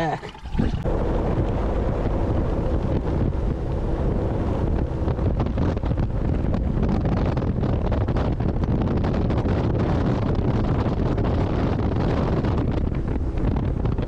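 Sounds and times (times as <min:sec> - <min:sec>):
boat engine: 0:00.0 - 0:14.0
water noise: 0:00.0 - 0:14.0
wind buffeting microphone: 0:00.4 - 0:14.0.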